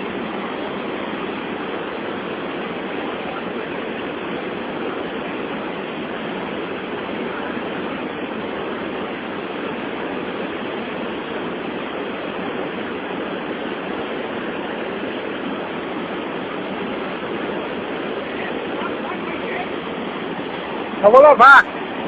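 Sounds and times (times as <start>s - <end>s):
water roaring over rapids: 0.0s - 22.0s.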